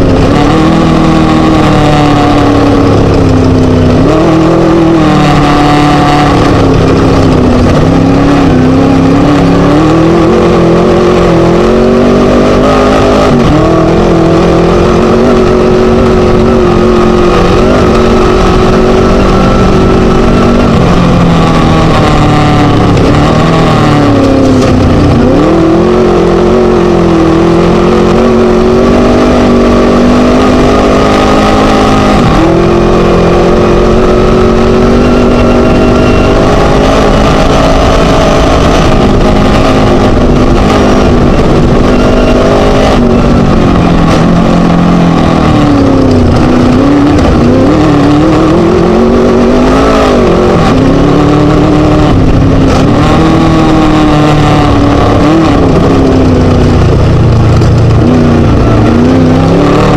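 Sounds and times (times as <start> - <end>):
race engine revving loudly: 0.0 - 59.9.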